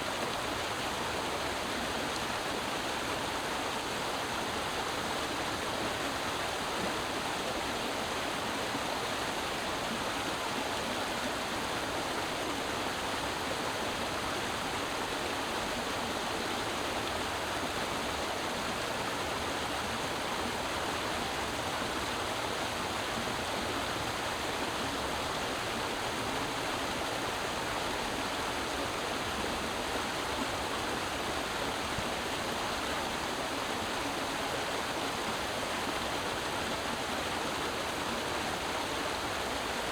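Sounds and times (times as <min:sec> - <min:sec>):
creek water running over rocks: 0:00.0 - 0:39.9.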